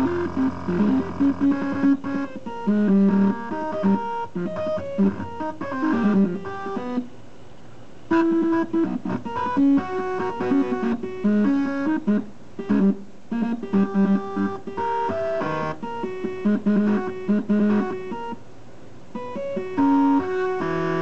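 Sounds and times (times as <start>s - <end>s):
stepper motors playing melody: 0.0s - 7.0s, 8.1s - 18.4s, 19.2s - 21.0s.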